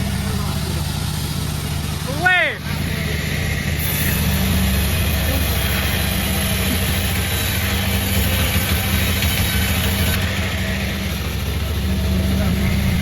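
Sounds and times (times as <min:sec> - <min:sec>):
sawmill engine hum: 0:00.0 - 0:13.0.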